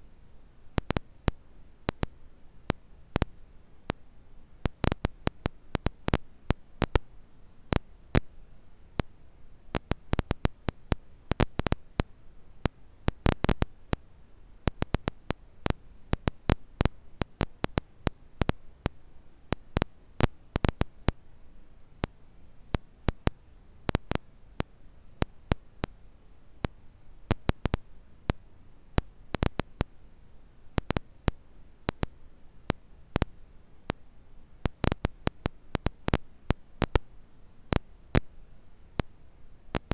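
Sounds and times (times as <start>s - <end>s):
faint low hiss: 0.0s - 39.9s.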